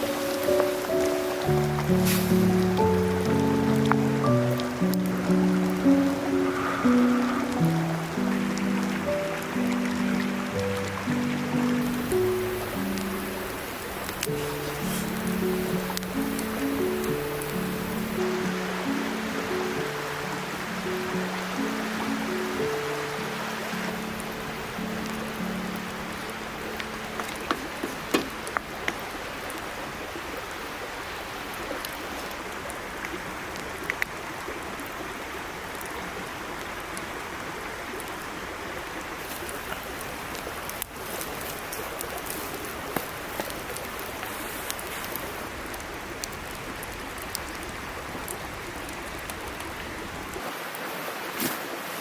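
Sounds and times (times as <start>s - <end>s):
stream babbling: 0.0s - 52.0s.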